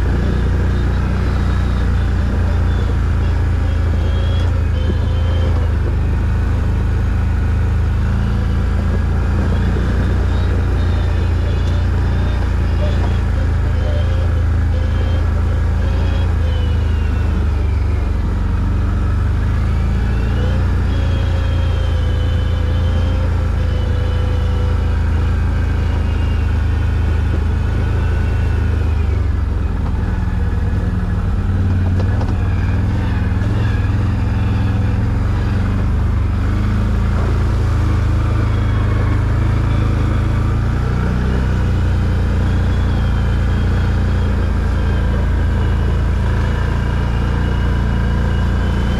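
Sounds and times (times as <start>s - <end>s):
quad bike engine rumbling: 0.0s - 48.9s.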